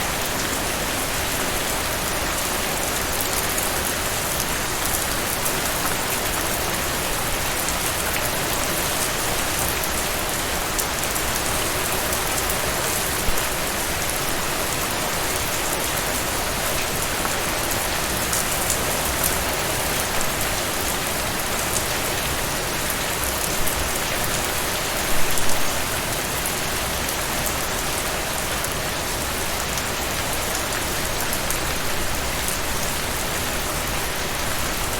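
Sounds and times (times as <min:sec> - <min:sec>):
loud rain spatters: 0:00.0 - 0:34.9
steady rain falling: 0:00.0 - 0:34.9.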